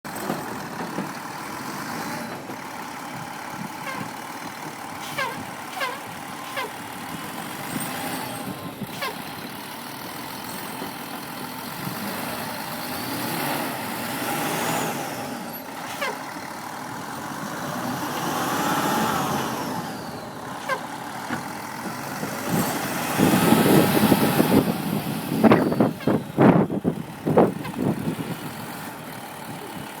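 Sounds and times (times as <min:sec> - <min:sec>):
truck engine revving: 0:00.1 - 0:30.0.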